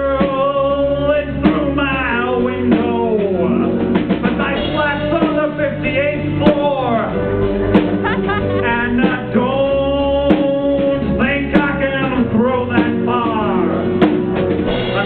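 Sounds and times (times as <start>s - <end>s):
band playing live: 0.0s - 15.0s
drum hits: 2.6s - 15.0s.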